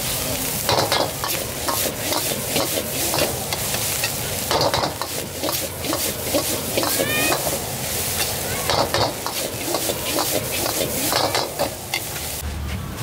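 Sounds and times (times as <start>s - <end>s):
food sizzling: 0.0s - 12.4s
metal ladle scraping a wok: 0.9s - 12.4s.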